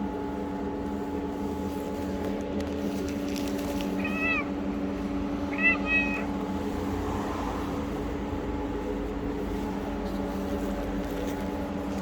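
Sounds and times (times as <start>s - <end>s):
motor humming with low rumble: 0.0s - 12.0s.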